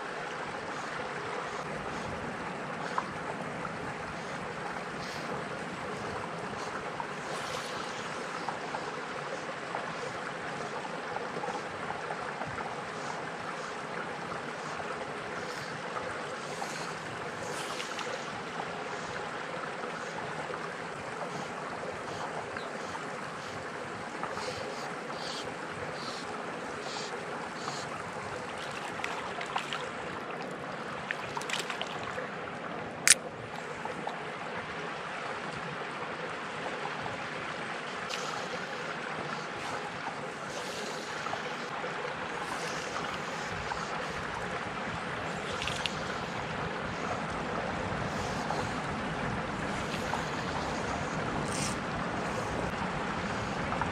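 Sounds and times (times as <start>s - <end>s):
water at pond's edge: 0.0s - 53.9s
wind: 0.0s - 53.9s.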